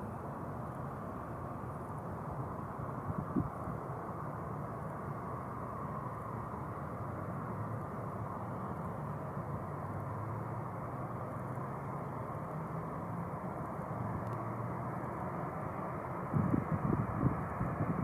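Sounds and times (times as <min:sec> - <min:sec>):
distant jet engine hum: 0:00.0 - 0:18.0.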